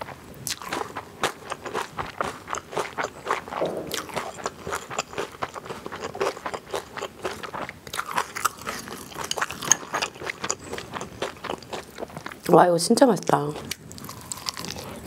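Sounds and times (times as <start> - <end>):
crunchy wet chewing: 0.0 - 12.5, 13.2 - 15.0.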